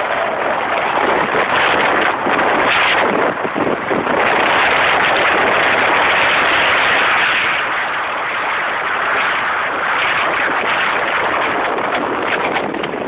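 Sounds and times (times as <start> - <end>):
motorboat engine: 0.0 - 13.0
wind buffeting microphone: 0.0 - 13.0.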